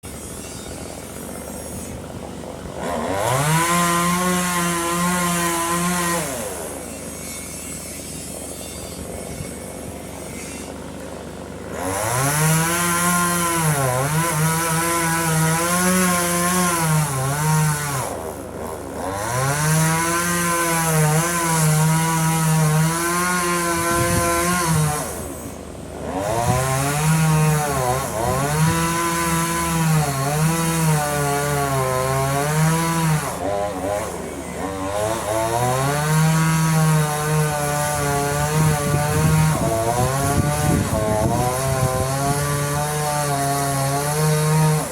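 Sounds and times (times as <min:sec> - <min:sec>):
chainsaw revving and idling: 0:00.0 - 0:44.9.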